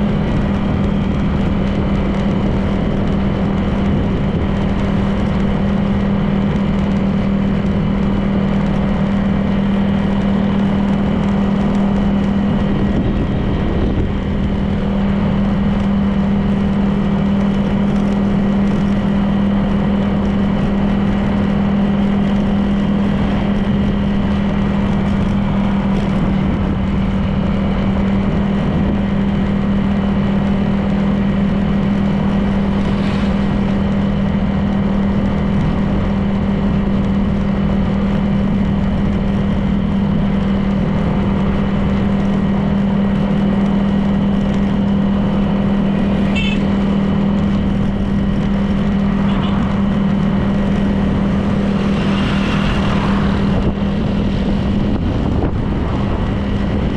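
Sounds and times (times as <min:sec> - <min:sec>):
road noise: 0:00.0 - 0:56.9
scooter engine humming: 0:00.0 - 0:56.9.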